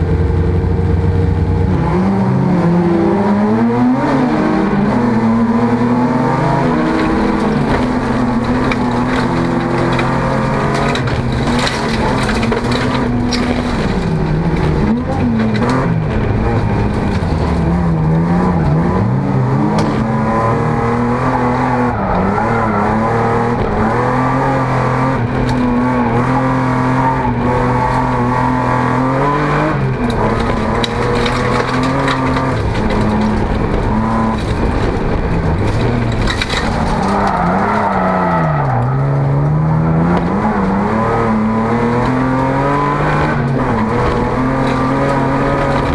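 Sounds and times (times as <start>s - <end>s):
race car engine revving: 0.0s - 45.9s
tyre and gravel noise: 6.3s - 19.0s, 21.3s - 45.9s.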